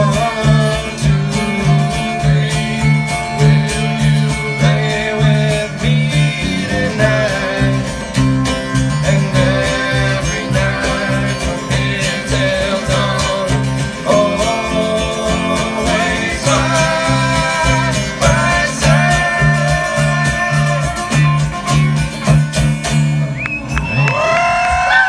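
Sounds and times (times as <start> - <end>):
strummed acoustic guitars: 0.0 - 24.0
bass notes: 0.0 - 24.9.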